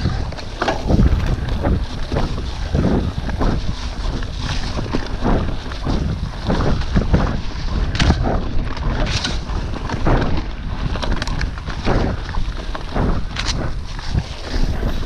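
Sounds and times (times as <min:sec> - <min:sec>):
bike knocking and rattling: 0:00.0 - 0:15.0
bike tyres rolling on dirt: 0:00.0 - 0:15.0
wind buffeting microphone: 0:00.0 - 0:15.0.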